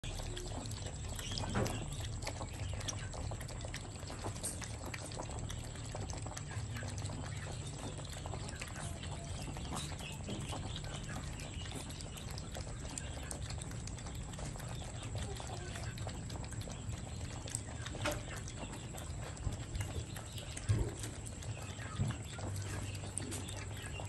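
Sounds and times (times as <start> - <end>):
low steady hum: 0.0 - 24.0
puppies lapping milk: 0.0 - 24.0.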